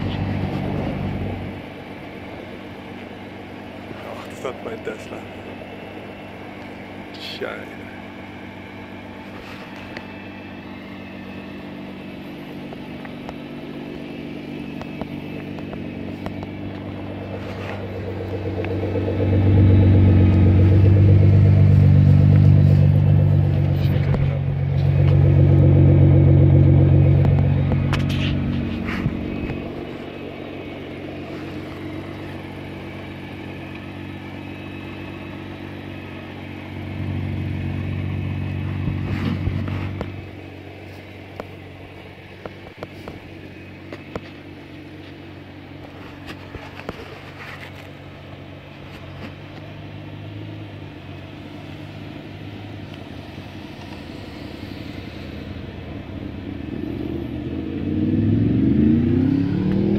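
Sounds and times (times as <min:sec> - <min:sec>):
car engine at low revs: 0:00.0 - 0:59.9.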